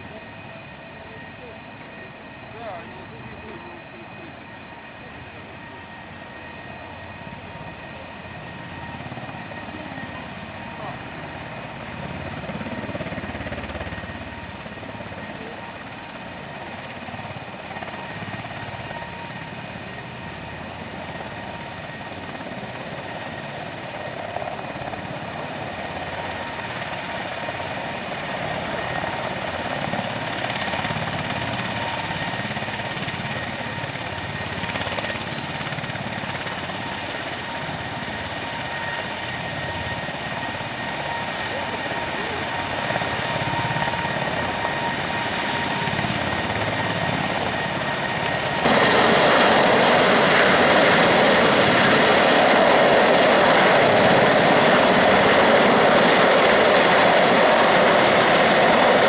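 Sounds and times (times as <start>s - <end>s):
helicopter running with turbine whine: 0.0s - 59.0s.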